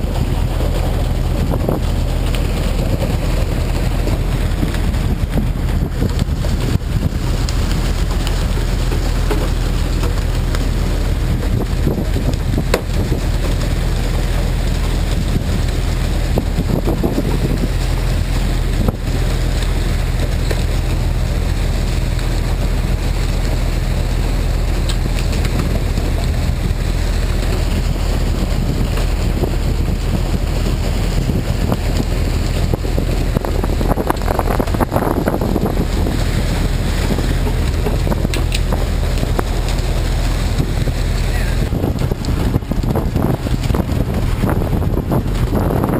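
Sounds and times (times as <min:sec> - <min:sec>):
boat engine droning: 0:00.0 - 0:45.9
water splashing along hull: 0:00.0 - 0:45.9
wind on microphone: 0:00.0 - 0:45.9.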